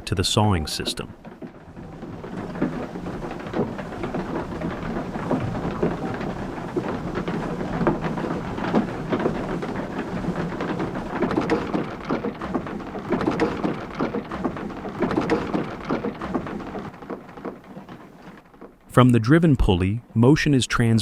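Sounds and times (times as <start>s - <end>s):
machinery rumbling and knocking: 0.0s - 20.9s.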